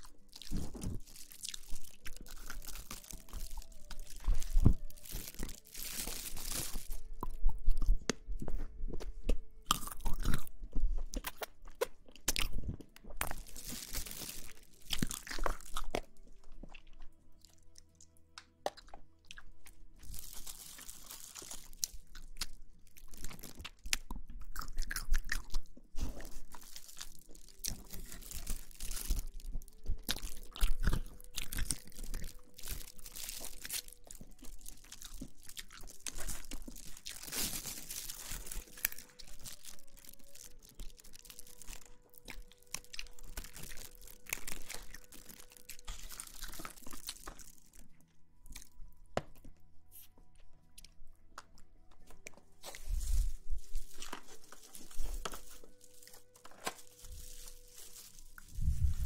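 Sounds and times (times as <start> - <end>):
crunching and rustling: 0.0 - 17.8, 18.7 - 50.1, 50.8 - 59.0.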